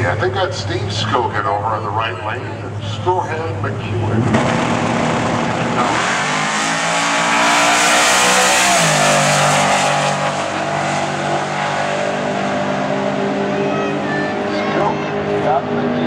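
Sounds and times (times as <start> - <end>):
drag car engine accelerating: 0.0 - 16.0.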